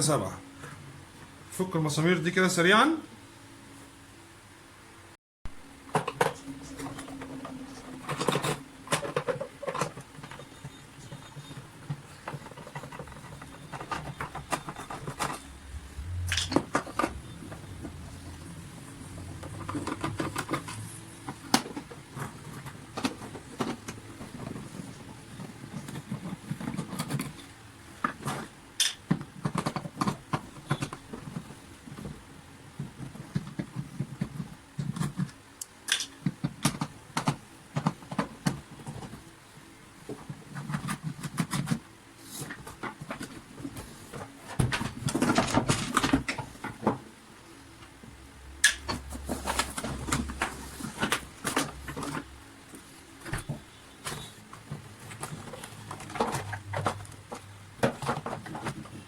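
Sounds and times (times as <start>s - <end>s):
plastic parts clicking and rattling: 5.9s - 32.2s, 32.8s - 39.2s, 42.4s - 47.0s, 48.6s - 59.0s.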